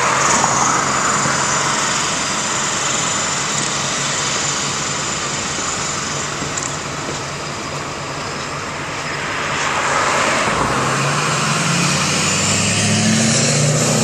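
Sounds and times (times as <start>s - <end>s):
outdoor engine noise: 0.0s - 14.0s
pickup truck approaching: 0.0s - 14.0s.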